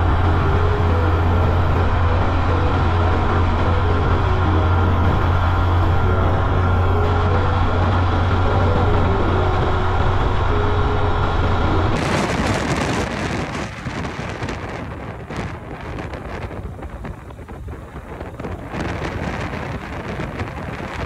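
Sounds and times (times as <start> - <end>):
car driving on highway: 0.0 - 21.0
wind on microphone: 0.0 - 21.0.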